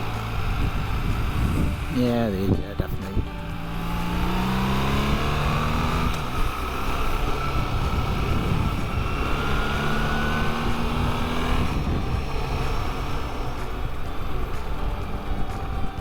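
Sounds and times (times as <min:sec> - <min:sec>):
motorcycle engine accelerating: 0:00.0 - 0:16.0
riding wind rushing: 0:00.0 - 0:16.0.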